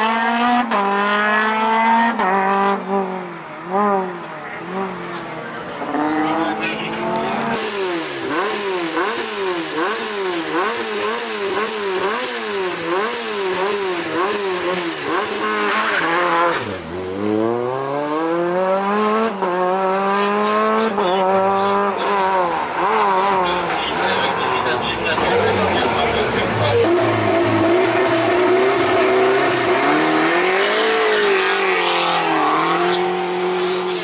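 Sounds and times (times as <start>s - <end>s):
car accelerating with upshifts: 0.0s - 34.0s
car engine revving: 0.0s - 34.0s.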